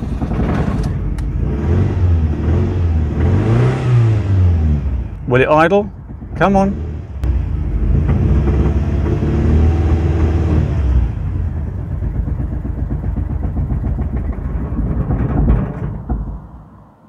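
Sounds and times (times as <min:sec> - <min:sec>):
car engine misfiring and stalling: 0:00.0 - 0:16.8.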